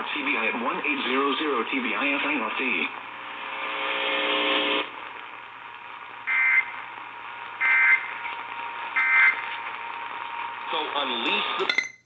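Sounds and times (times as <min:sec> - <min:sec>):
radio hiss: 0:00.0 - 0:11.7.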